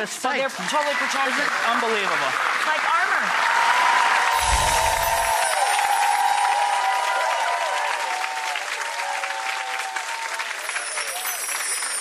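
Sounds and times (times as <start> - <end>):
studio audience applauding and cheering: 0.0 - 12.0.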